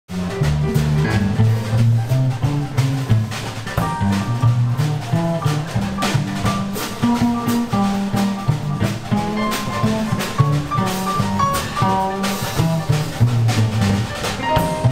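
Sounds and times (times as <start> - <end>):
drum kit keeping time: 0.1 - 14.9
higher melody notes: 0.1 - 14.9
plucked double bass: 0.1 - 14.9.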